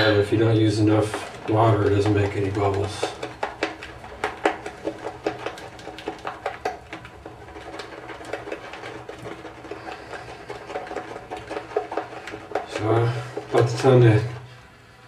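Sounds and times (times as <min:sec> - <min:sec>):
shaving brush whipping lather: 0:00.0 - 0:14.4
brush clicking against cup: 0:00.7 - 0:14.0.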